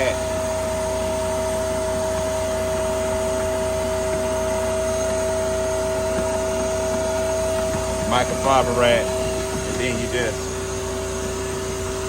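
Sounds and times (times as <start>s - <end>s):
constant whine: 0.0s - 12.0s
machine droning: 0.0s - 12.0s.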